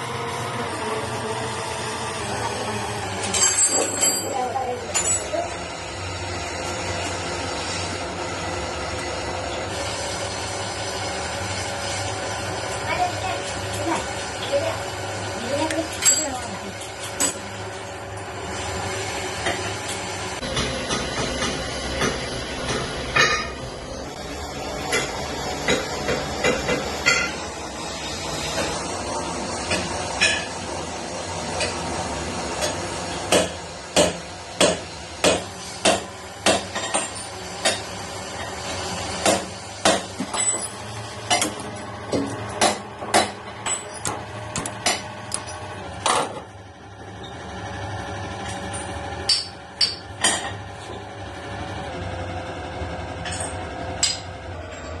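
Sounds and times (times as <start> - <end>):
workshop hum: 0.0 - 55.0.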